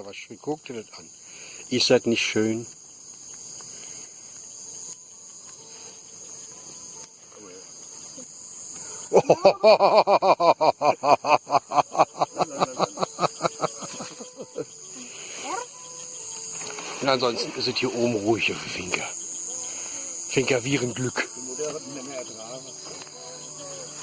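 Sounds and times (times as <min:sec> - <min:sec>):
insects chirping: 0:00.0 - 0:24.0
rapid pulsed insect calls: 0:00.0 - 0:24.0.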